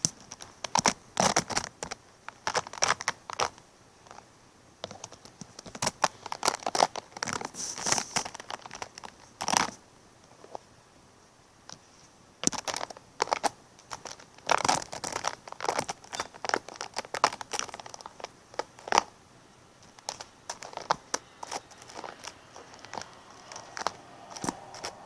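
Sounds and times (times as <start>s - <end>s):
crinkling and crackling clicks: 0.0s - 10.7s, 11.6s - 25.0s.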